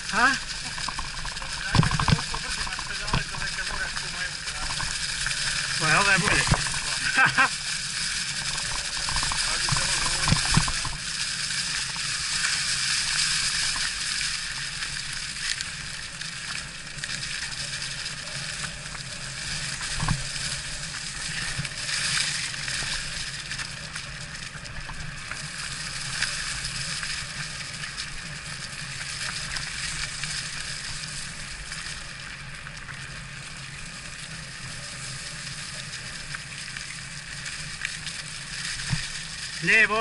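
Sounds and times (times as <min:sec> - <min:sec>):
bike tyres crunching on trail: 0:00.0 - 0:40.0.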